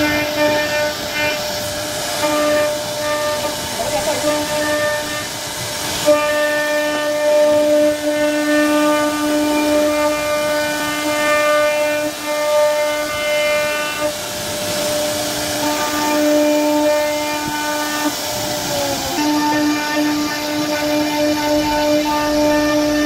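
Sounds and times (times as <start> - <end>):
router spindle high whine: 0.0 - 8.2, 8.9 - 23.0.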